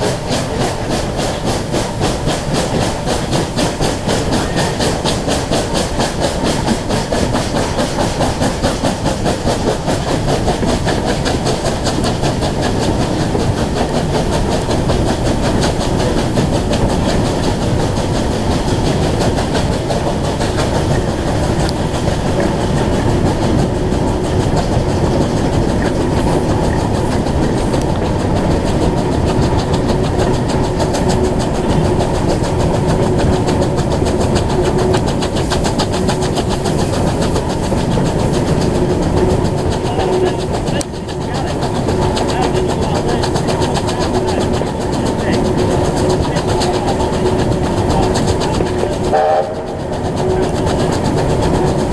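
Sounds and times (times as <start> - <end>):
steam train beats: 0.0 - 51.9
wheels clattering on rails: 0.0 - 51.9.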